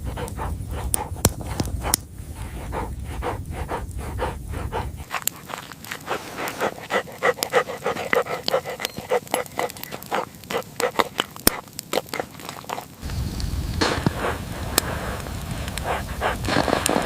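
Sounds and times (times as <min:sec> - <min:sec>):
dog panting: 0:00.0 - 0:13.0, 0:14.1 - 0:17.0.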